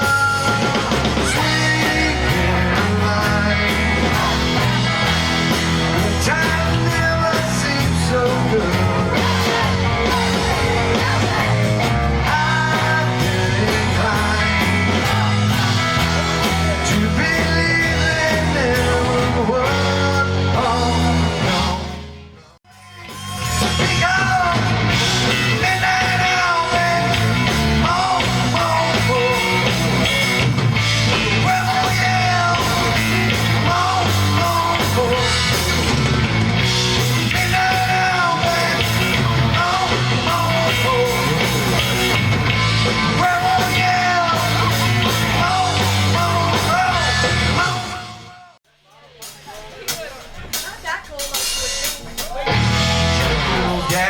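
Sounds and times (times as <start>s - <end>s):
loud rock music: 0.0s - 48.6s, 49.2s - 54.0s.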